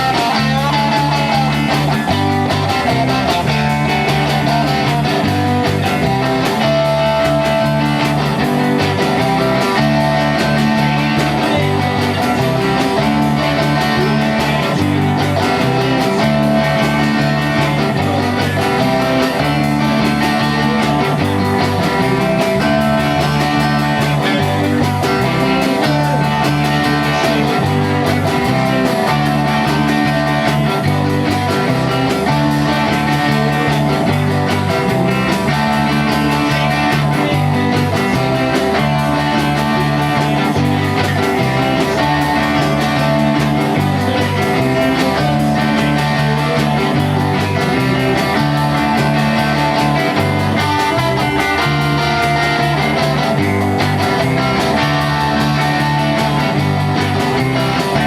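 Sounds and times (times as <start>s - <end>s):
electric guitar: 0.0s - 58.0s
rock band instrumental: 0.0s - 58.0s.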